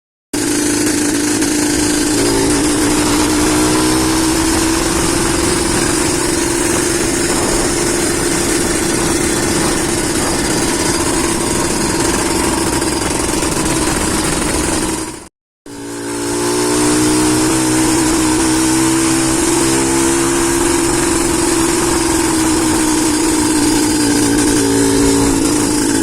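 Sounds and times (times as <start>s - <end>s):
two-stroke motorcycle engine running: 0.4s - 26.0s.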